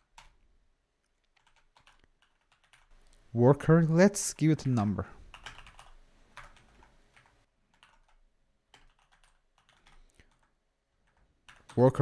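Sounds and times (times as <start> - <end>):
keyboard typing: 0.0 - 0.4, 1.0 - 2.9, 4.6 - 12.0.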